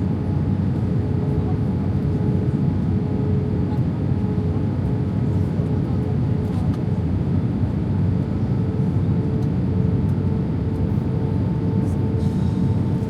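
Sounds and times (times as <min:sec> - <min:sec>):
jet rumble in aircraft cabin: 0:00.0 - 0:13.0.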